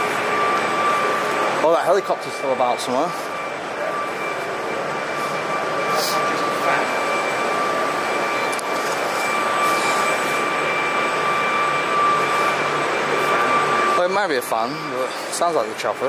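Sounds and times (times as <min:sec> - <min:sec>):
rushing drone with high whine: 0:00.0 - 0:16.0.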